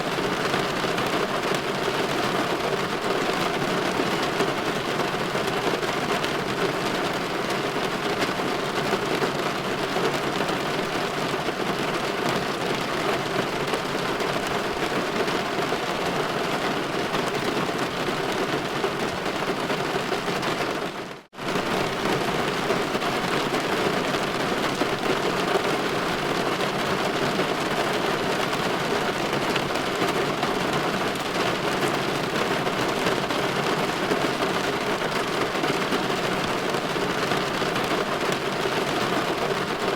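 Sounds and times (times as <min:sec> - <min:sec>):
light rain pattering on a window: 0:00.1 - 0:39.9.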